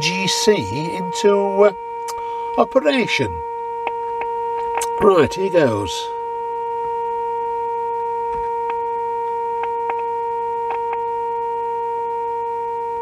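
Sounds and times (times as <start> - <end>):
radio loudspeaker test tone: 0.0 - 13.0.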